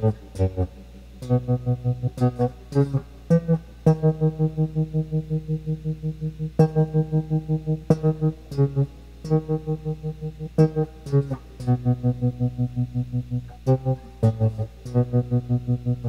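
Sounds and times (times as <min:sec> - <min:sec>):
guitar picking a low note: 0:00.0 - 0:16.0.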